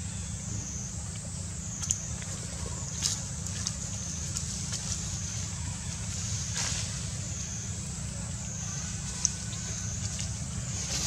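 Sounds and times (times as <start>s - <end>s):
constant low rumble: 0.0s - 11.0s
insects droning: 0.0s - 11.0s.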